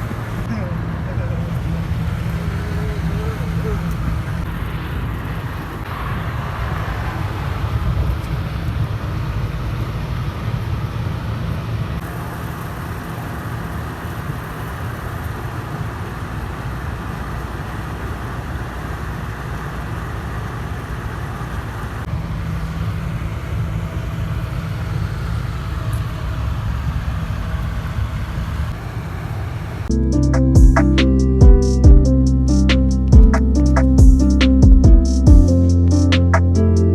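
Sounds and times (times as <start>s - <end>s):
car engine and road noise: 0.0s - 36.9s.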